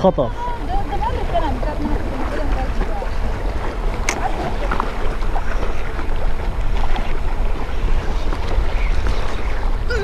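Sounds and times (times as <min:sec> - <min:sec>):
sea waves washing against rocks: 0:00.0 - 0:10.0.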